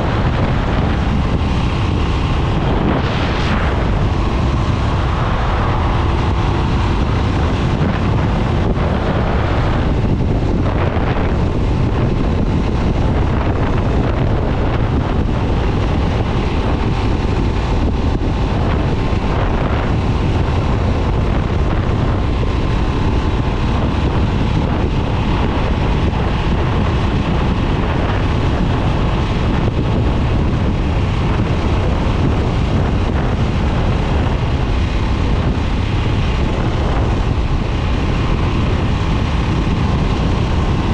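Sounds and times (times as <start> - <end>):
motorcycle engine cruising: 0.0 - 40.9
wind buffeting microphone: 0.0 - 40.9.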